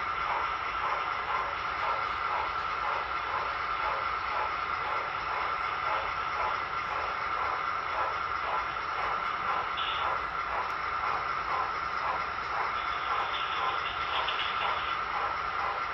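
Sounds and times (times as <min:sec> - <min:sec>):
model trains humming: 0:00.0 - 0:15.9.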